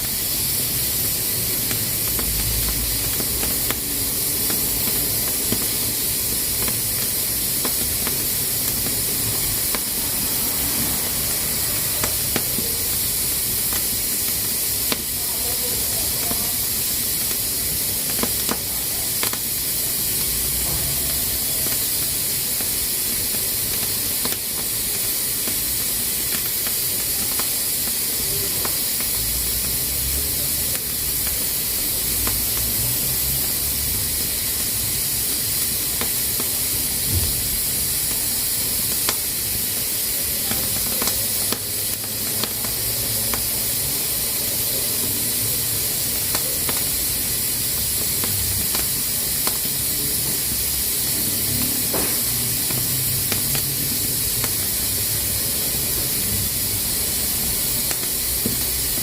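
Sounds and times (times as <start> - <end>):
pressure cooker hissing: 0.0 - 59.0.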